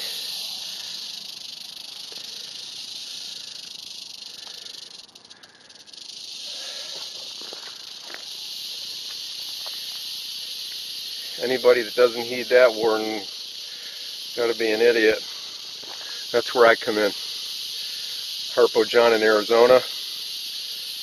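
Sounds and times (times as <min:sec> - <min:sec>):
rattlesnake tail rattling: 0:00.0 - 0:21.0.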